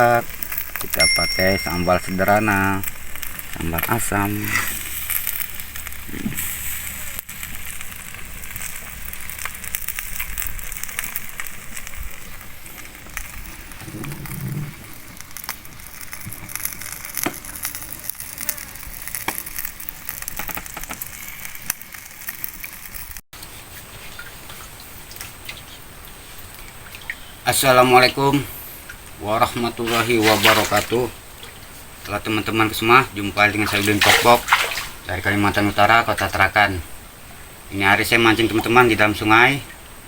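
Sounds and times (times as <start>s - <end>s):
fish sizzling with crackles and pops: 0.0s - 40.0s.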